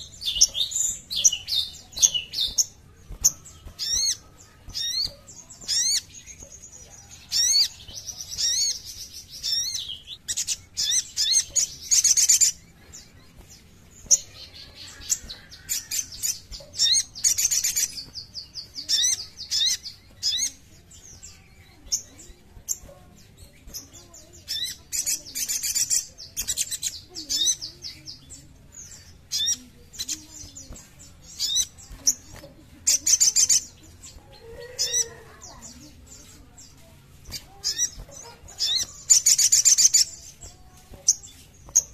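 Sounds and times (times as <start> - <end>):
bird singing high chirps and trills: 0.0 - 41.9.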